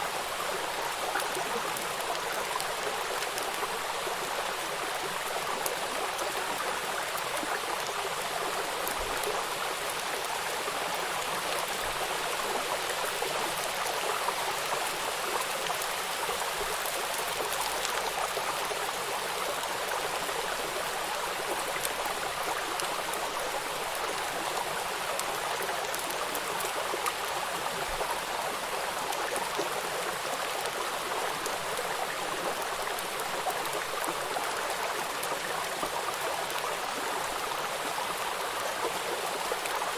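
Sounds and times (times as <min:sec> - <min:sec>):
rain falling on water: 0:00.0 - 0:39.9
river flowing: 0:00.0 - 0:39.9.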